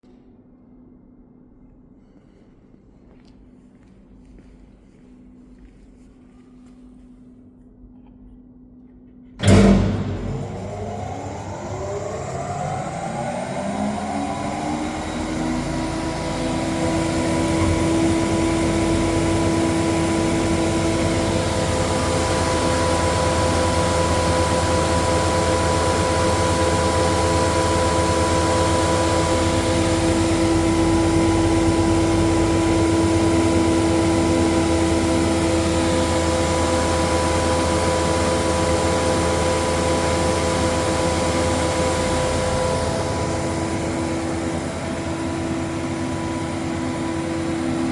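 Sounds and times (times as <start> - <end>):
woodworking planer running: 9.4 - 47.9.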